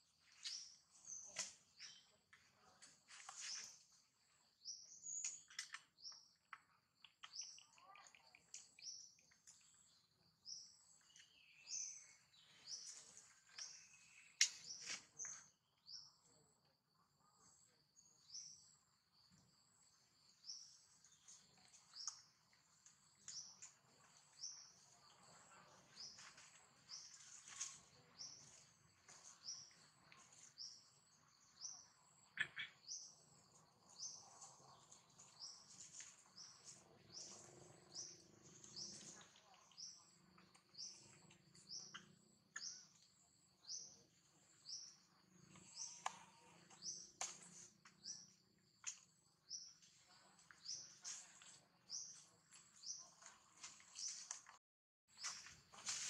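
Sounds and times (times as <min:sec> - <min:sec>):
bird chirping: 0:00.0 - 0:16.5, 0:17.2 - 0:54.6.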